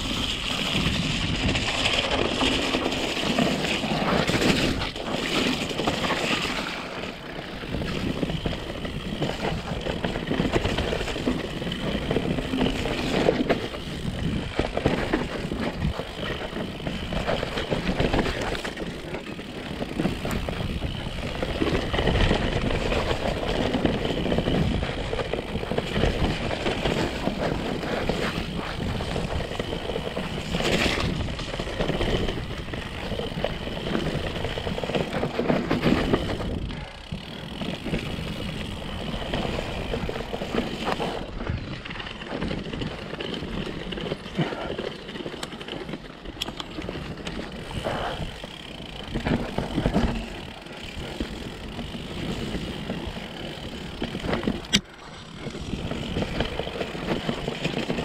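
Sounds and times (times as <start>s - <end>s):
bike knocks and rattles: 0.0s - 58.0s.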